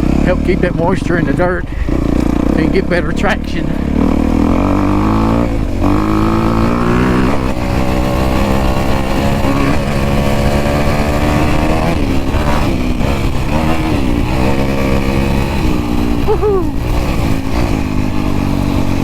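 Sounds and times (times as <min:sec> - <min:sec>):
off-road motorcycle engine revving: 0:00.0 - 0:19.0.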